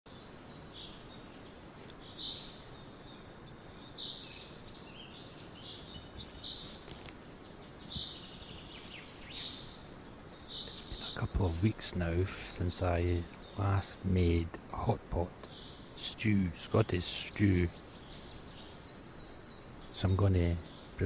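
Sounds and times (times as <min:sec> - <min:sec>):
birds chirping: 0:00.1 - 0:21.0
steady outdoor hiss: 0:00.1 - 0:21.0.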